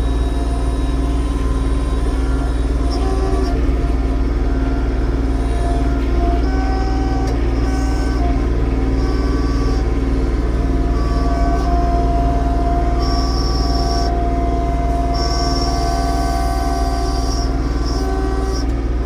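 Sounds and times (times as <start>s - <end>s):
high whine: 0.0s - 19.0s
tractor diesel engine running: 0.0s - 19.0s.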